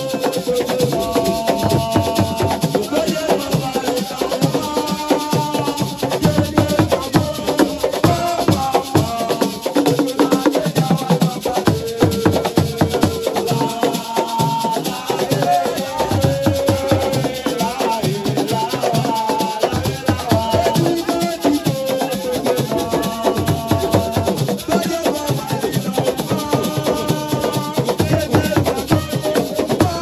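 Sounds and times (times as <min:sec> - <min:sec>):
fast drumming: 0:00.0 - 0:30.0
rattles shaking: 0:00.0 - 0:30.0
voices singing long notes: 0:00.0 - 0:30.0.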